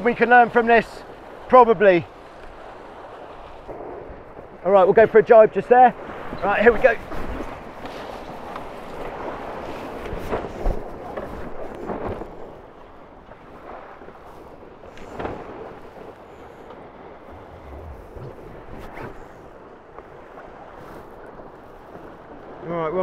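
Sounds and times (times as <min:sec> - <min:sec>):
water rushing past boat hulls: 0:00.0 - 0:23.0
wind on microphone: 0:02.1 - 0:05.2, 0:05.9 - 0:22.7.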